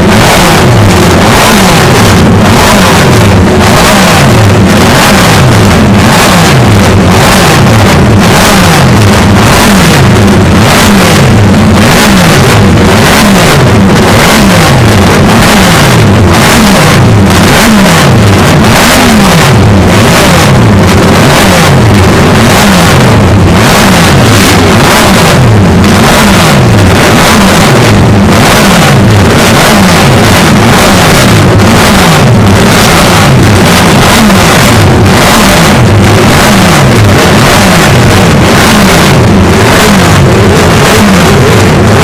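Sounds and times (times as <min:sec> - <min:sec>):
racing engines revving: 0:00.0 - 0:42.0.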